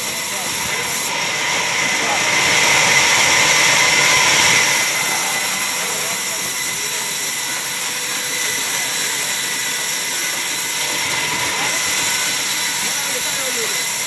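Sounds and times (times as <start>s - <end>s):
band saw cutting timber: 0.0s - 14.0s.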